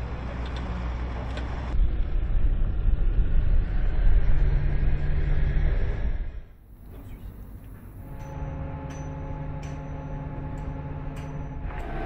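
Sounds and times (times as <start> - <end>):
armoured vehicle engine rumbling: 0.0 - 12.0.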